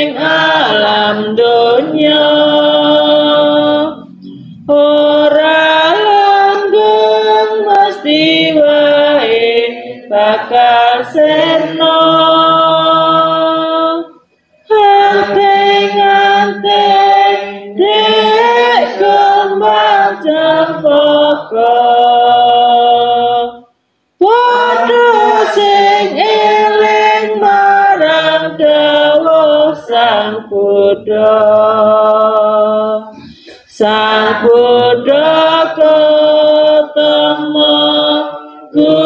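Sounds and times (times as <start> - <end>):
women singing in unison: 0.0 - 39.0.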